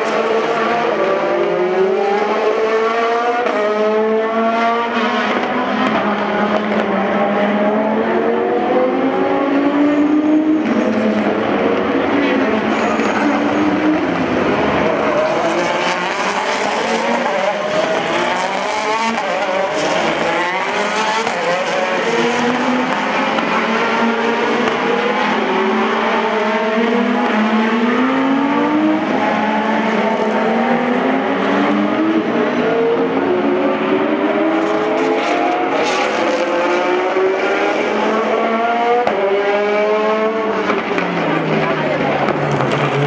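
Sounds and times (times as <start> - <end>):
race car engines at full throttle: 0.0 - 43.0.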